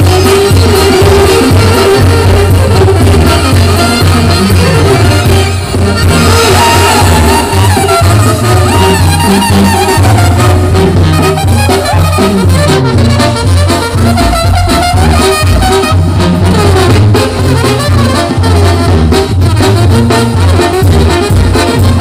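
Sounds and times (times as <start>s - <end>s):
drums: 0.0s - 22.0s
sousaphone bass line: 0.0s - 22.0s
trombones: 0.0s - 22.0s
trumpets: 0.0s - 22.0s.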